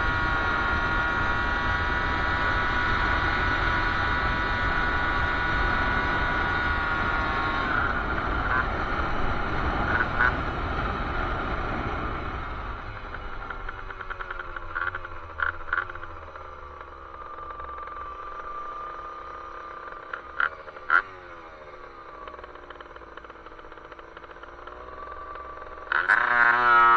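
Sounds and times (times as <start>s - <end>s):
two-stroke moped engine revving: 0.0s - 26.9s.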